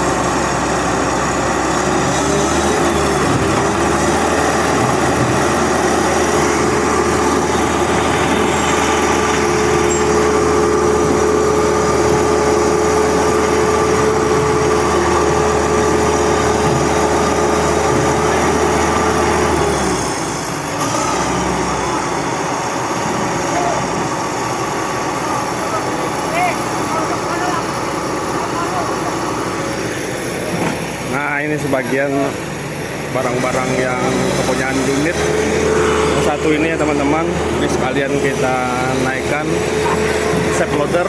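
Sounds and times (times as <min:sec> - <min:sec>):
diesel machinery engine running: 0:00.0 - 0:41.0
high whine: 0:00.0 - 0:41.0.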